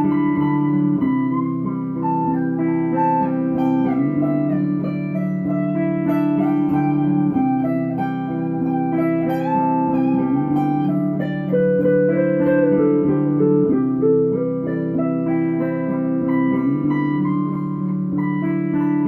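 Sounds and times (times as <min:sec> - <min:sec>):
guitar music: 0:00.0 - 0:19.0.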